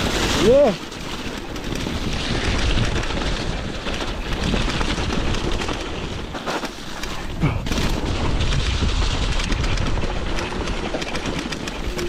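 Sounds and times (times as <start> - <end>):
landslide debris rumbling: 0.0 - 12.0.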